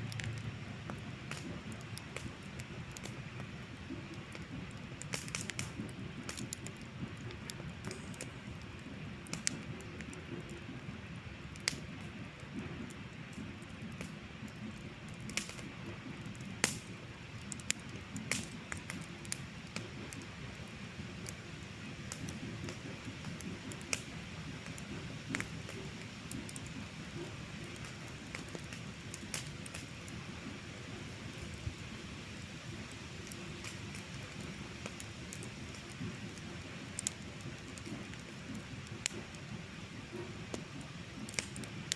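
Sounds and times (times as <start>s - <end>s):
campfire crackling: 0.0s - 41.9s
low steady rumble of fire: 0.0s - 41.9s
sharp pops of fire: 0.0s - 41.9s.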